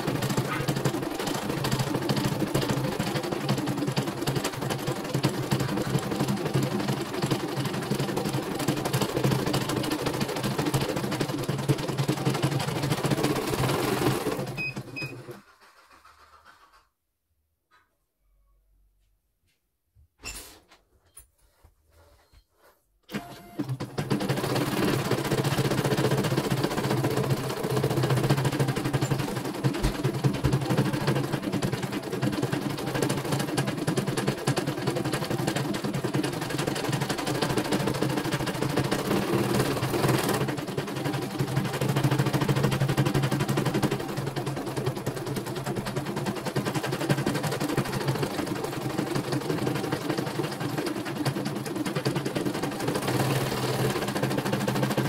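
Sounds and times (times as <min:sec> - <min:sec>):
embroidery machine stitching: 0:00.0 - 0:16.2, 0:23.1 - 0:55.0.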